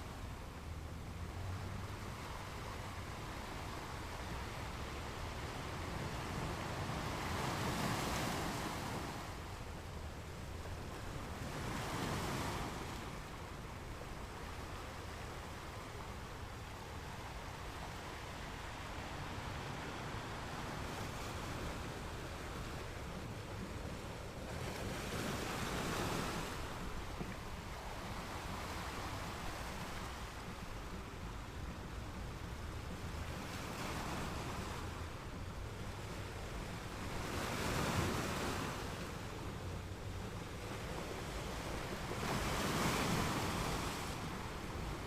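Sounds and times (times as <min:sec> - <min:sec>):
waves breaking: 0:00.0 - 0:45.0.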